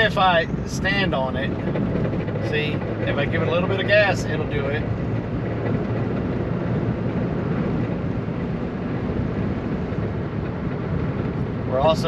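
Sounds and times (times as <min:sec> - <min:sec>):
engine and road drone: 0:00.0 - 0:12.0.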